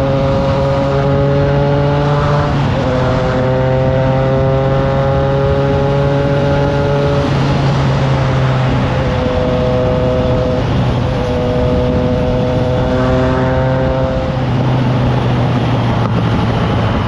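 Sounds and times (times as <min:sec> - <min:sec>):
motorcycle engine cruising: 0:00.0 - 0:17.0
wind noise on microphone: 0:00.0 - 0:17.0.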